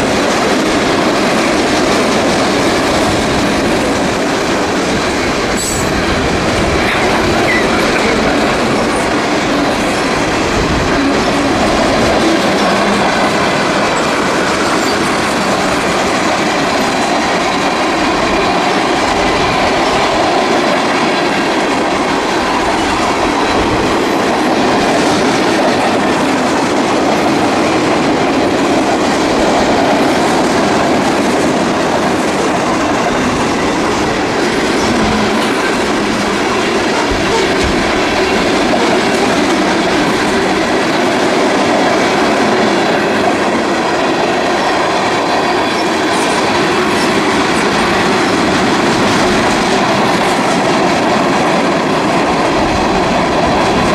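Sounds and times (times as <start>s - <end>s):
freight train wheels clacking on rails: 0.0s - 53.9s.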